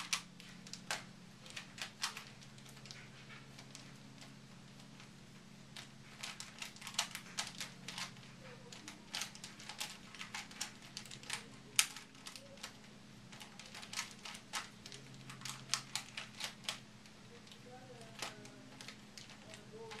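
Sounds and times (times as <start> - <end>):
puzzle cube plastic clicks: 0.0 - 5.1, 5.7 - 20.0.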